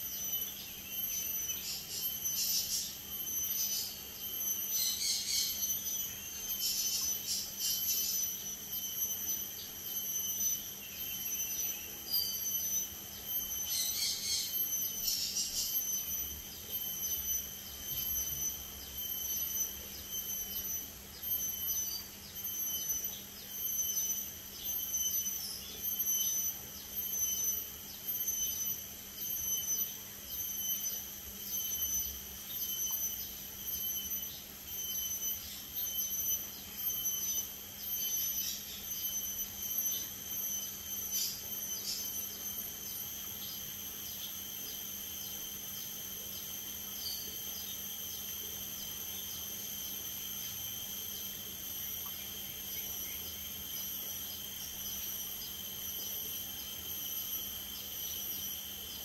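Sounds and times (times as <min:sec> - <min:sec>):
high-pitched insect drone: 0:00.0 - 0:59.0
insect chirps: 0:00.0 - 0:59.0.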